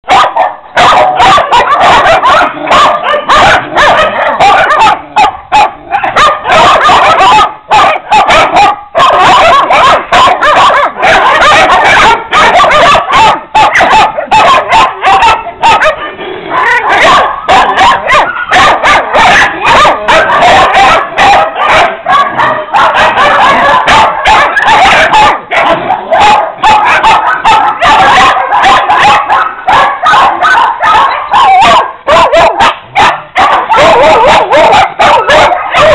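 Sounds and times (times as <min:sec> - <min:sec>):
many dogs barking and yipping: 0:00.0 - 0:35.9.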